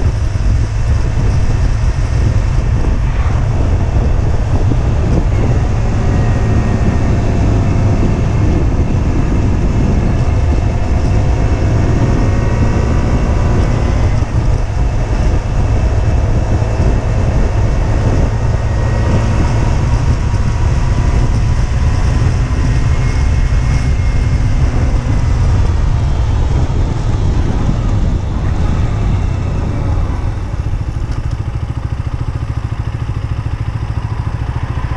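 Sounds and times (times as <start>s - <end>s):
motorcycle engine running: 0.0s - 34.9s
wind rumble on microphone: 0.0s - 34.9s.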